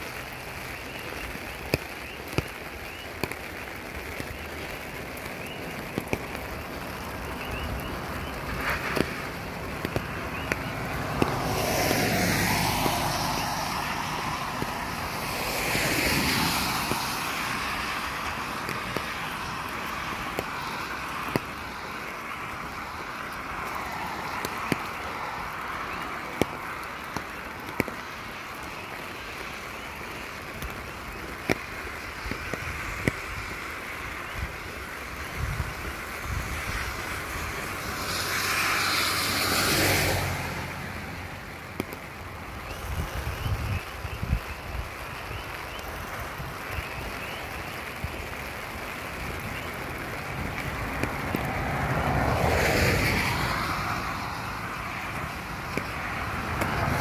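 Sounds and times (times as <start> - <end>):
car tyres hissing through water: 0.0 - 57.0
rain on a wet road: 0.0 - 57.0.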